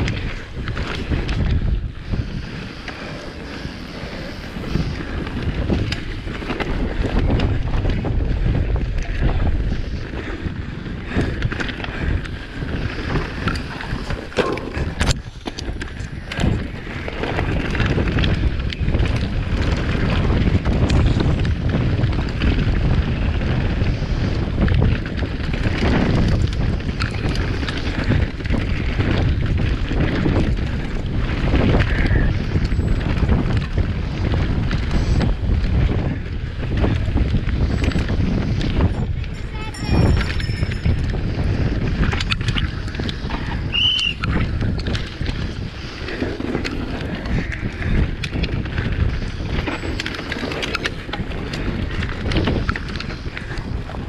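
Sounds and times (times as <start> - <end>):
bike rattling over bumps: 0.0 - 54.0
wind buffeting microphone: 0.0 - 54.0.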